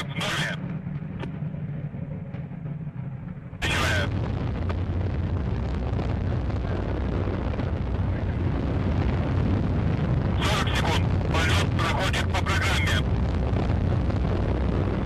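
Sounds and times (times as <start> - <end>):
rocket engine crackle: 0.0 - 15.0
rocket engine roaring: 0.0 - 15.0.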